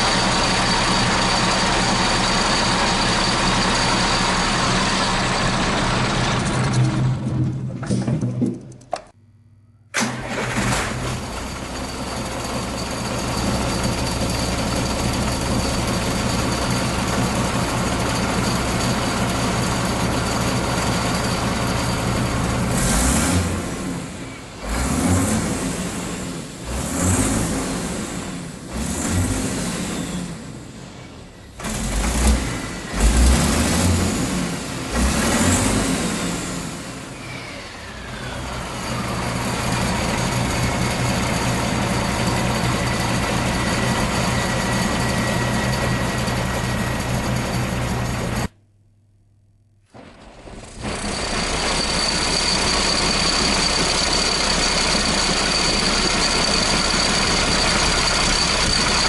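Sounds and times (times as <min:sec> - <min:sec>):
diesel engine idling and revving: 0:00.0 - 0:07.4, 0:10.0 - 0:48.5, 0:50.6 - 0:59.0.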